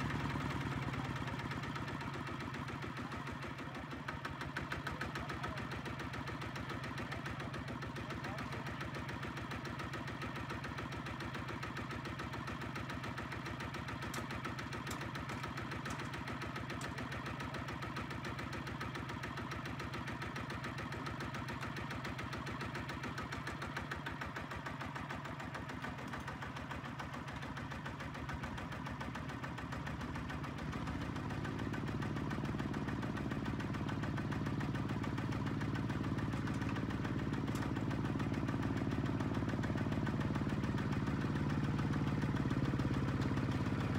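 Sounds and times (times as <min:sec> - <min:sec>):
diesel engine chugging: 0:00.0 - 0:43.9.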